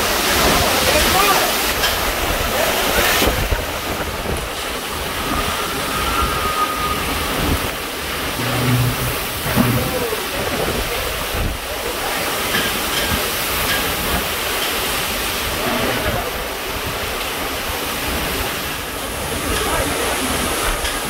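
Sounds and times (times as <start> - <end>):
driving rain: 0.0 - 21.0
hurricane winds blowing: 0.0 - 21.0.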